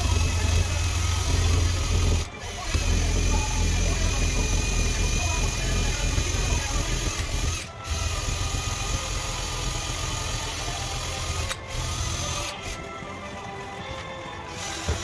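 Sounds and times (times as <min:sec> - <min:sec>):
cordless drill whirring: 0:00.0 - 0:15.0.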